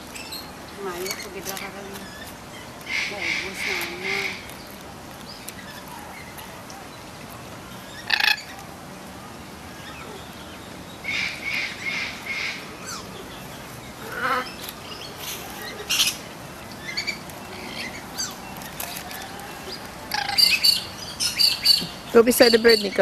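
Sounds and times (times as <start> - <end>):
birds chirping and squawking: 0.0 - 7.1, 7.7 - 8.6, 9.6 - 23.0.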